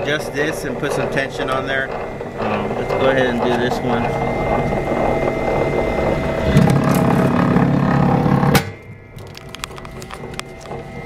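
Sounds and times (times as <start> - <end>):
wire stripping machine running: 0.0 - 11.0.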